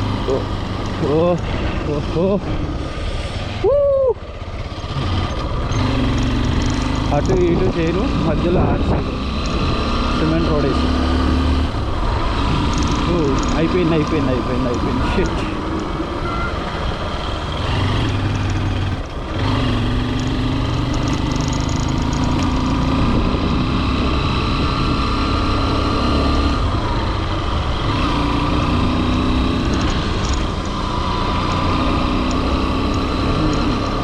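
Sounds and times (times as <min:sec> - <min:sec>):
motorcycle engine running: 0:00.0 - 0:03.3, 0:04.2 - 0:34.0.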